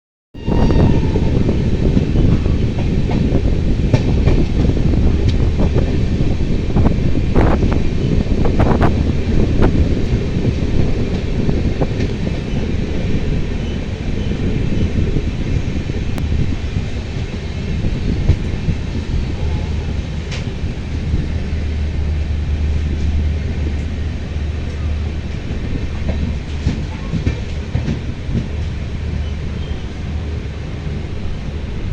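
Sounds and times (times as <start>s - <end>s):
train rumbling: 0.3s - 31.9s.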